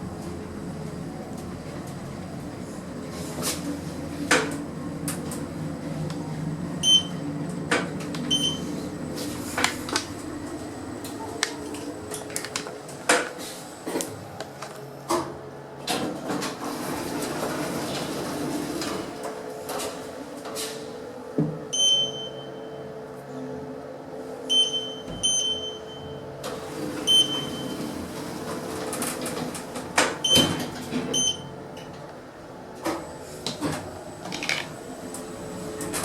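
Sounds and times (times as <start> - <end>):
lift running with low hum: 0.0 - 36.0.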